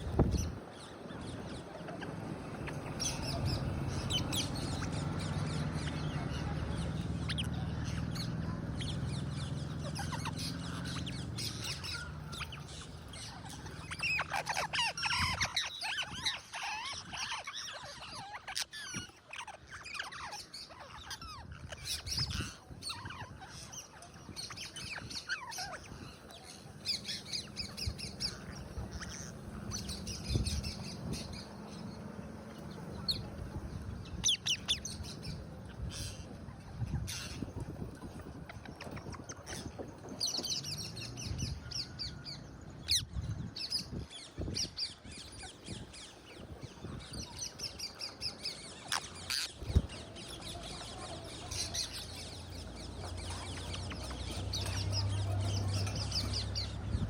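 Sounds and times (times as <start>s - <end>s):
parakeets squawking and chattering: 0.0s - 57.0s.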